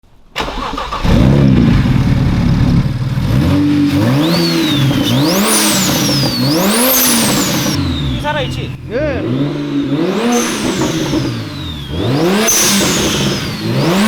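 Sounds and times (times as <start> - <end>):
car engine revving: 0.4 - 14.0.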